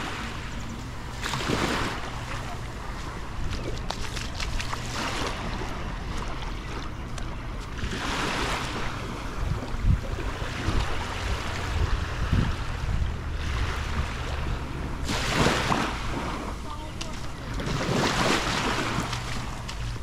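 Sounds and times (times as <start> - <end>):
sea waves breaking on beach: 0.0 - 6.8, 7.7 - 20.0
wind rumbling on microphone: 0.0 - 20.0.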